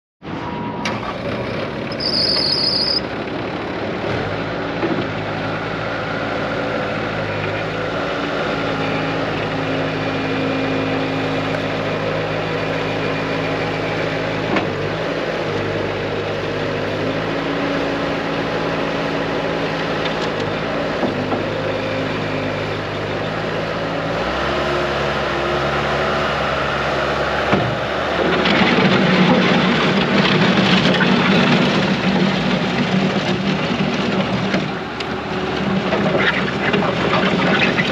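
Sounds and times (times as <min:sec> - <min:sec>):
diesel engine running: 0:00.2 - 0:37.9.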